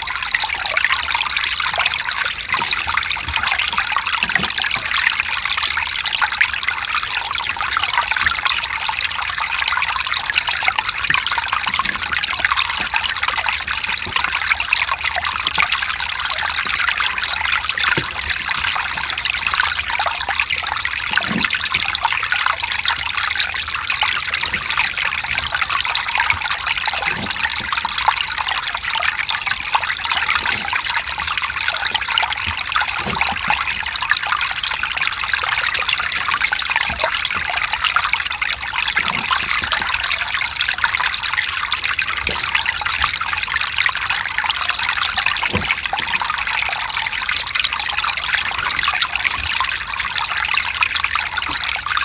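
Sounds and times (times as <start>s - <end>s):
stream rushing over rocks: 0.3s - 52.0s.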